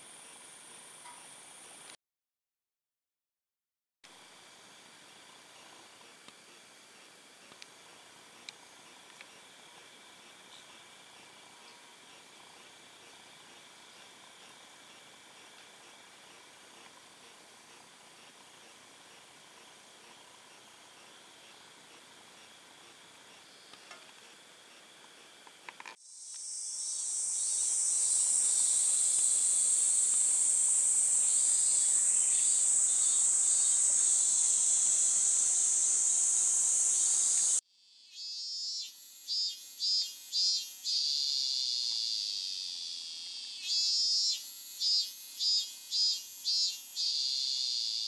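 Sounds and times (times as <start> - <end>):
cicadas buzzing: 0.0 - 1.9, 4.1 - 48.0
pulsed cicada song: 4.1 - 48.0.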